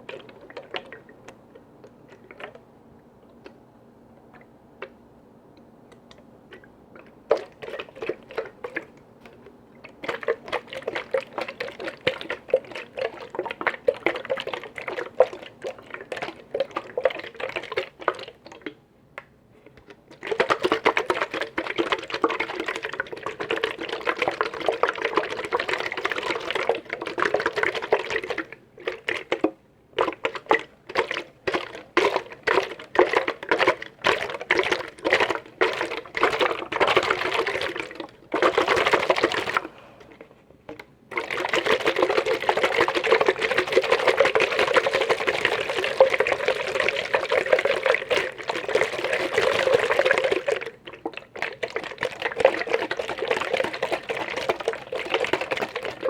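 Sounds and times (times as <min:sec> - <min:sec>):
liquid moving in a container: 0:00.0 - 0:05.1, 0:05.9 - 0:18.8, 0:19.4 - 0:56.0.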